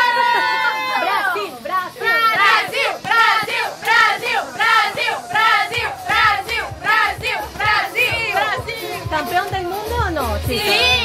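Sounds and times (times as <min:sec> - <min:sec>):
women chanting and singing: 0:00.0 - 0:11.0.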